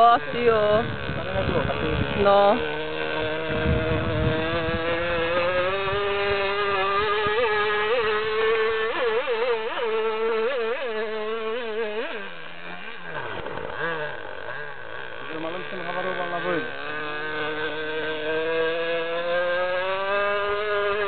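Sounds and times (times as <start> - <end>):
model boat engine buzzing whine: 0.0 - 21.0.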